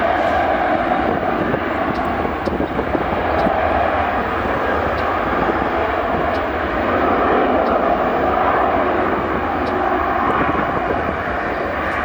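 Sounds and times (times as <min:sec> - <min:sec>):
jet engine roaring: 0:00.0 - 0:12.0.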